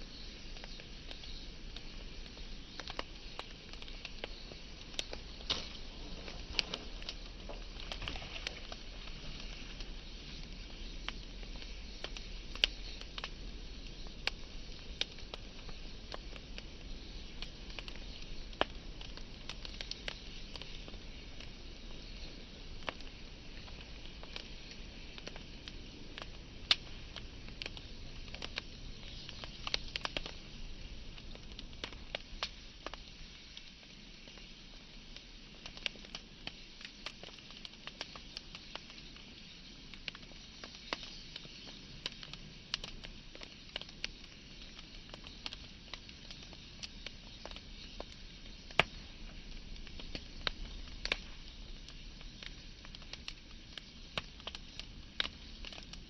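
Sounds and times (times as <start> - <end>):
fire hiss: 0.0 - 56.0
wood fire crackling and popping: 0.0 - 56.0.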